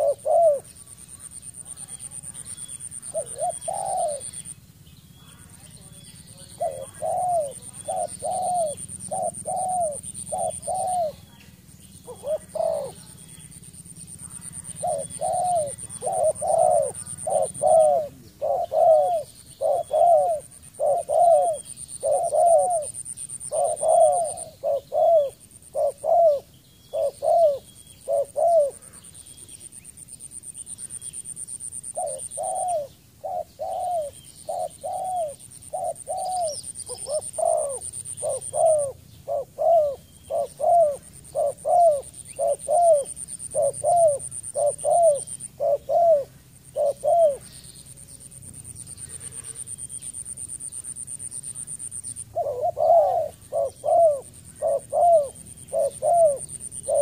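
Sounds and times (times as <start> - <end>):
dove cooing: 0.0 - 4.6, 5.3 - 29.6, 30.4 - 47.6, 48.4 - 57.0.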